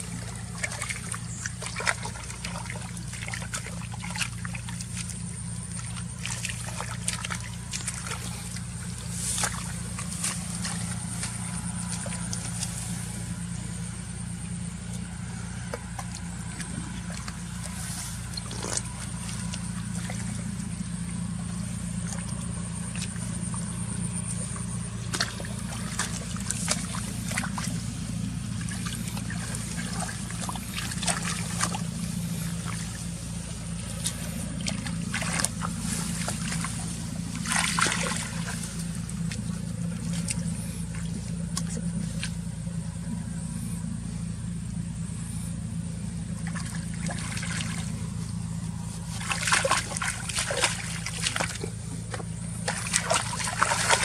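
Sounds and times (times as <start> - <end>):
water splashing and trickling: 0.0 - 42.9, 45.9 - 54.0
low motor hum: 0.0 - 54.0.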